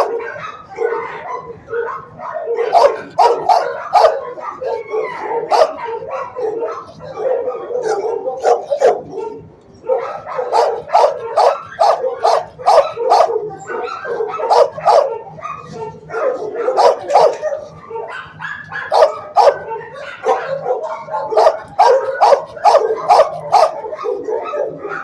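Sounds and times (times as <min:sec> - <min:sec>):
dogs barking sharply: 0:00.0 - 0:25.0.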